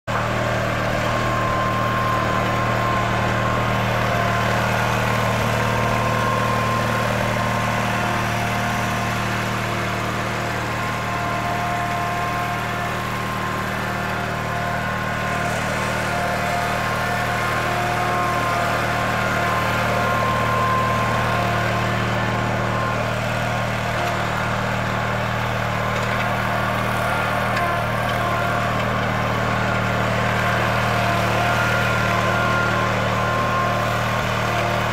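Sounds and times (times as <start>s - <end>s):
riding mower engine running: 0.0s - 34.9s.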